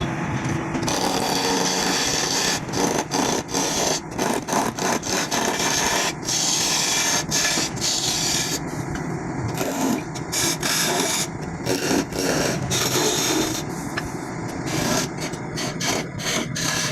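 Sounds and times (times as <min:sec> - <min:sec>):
hand tool scraping wood: 0:00.8 - 0:08.8, 0:09.5 - 0:16.9.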